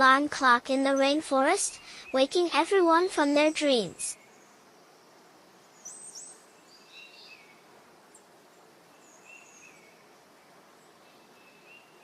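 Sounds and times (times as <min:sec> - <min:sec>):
low steady hiss: 0:00.0 - 0:12.0
faint bird chirps: 0:00.9 - 0:02.3, 0:03.4 - 0:12.0.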